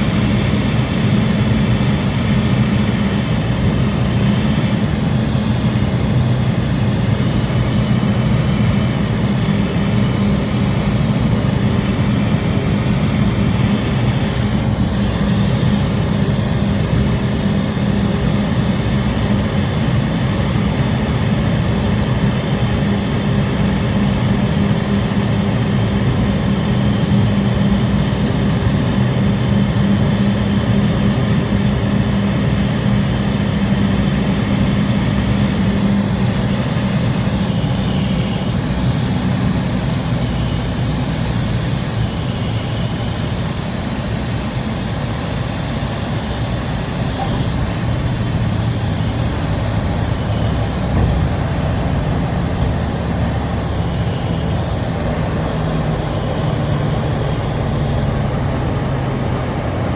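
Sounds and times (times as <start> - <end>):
turboprop cabin drone: 0.0 - 59.9.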